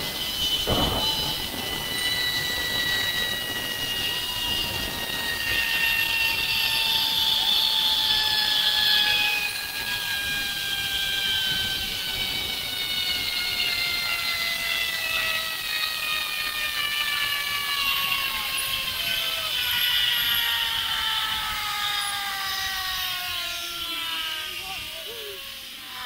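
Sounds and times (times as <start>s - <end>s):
wind noise on microphone: 0.0s - 25.7s
pulley wheels whirring on cable: 0.0s - 26.0s.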